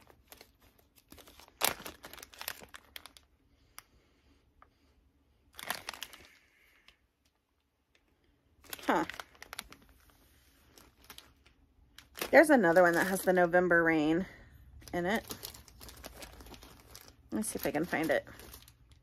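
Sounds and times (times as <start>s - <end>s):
plastic packaging crinkling: 0.0s - 3.9s, 5.5s - 13.8s, 14.7s - 19.0s.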